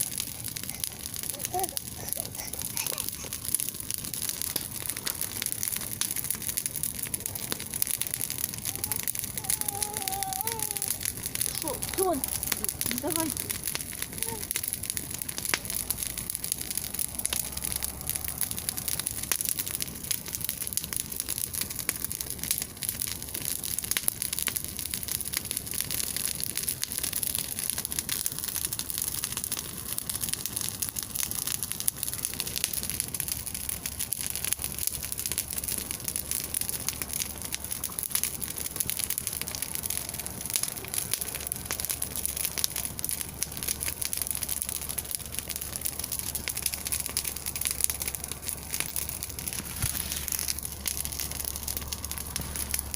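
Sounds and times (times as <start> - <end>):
bonfire crackling: 0.0 - 52.9.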